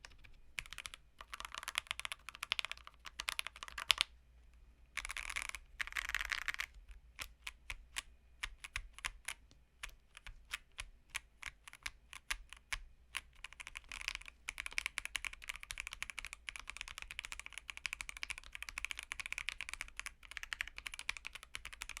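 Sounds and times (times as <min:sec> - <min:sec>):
mechanical keyboard typing: 0:00.0 - 0:04.1, 0:05.0 - 0:22.0.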